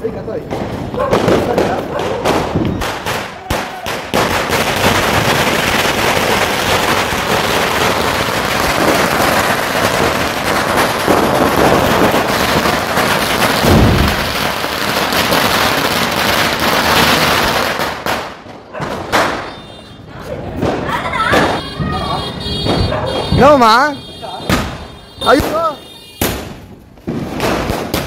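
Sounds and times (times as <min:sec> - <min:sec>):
firework cracks and bangs: 0:00.0 - 0:28.0.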